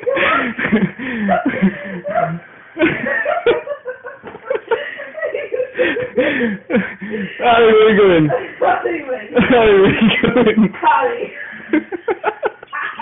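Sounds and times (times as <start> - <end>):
people laughing: 0.0 - 8.7, 9.3 - 13.0.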